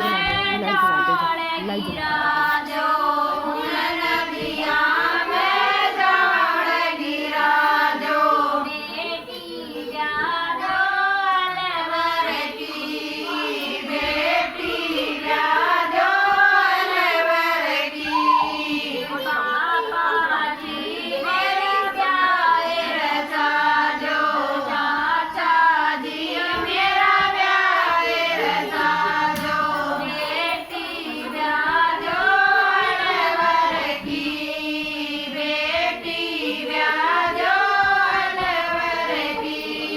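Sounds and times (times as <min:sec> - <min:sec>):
high voices singing folk song: 0:00.0 - 0:39.9.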